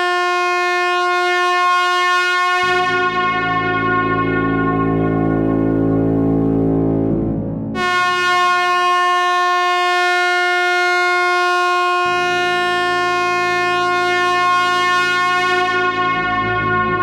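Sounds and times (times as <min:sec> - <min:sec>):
truck air horn blast: 0:00.0 - 0:06.6, 0:07.8 - 0:17.0.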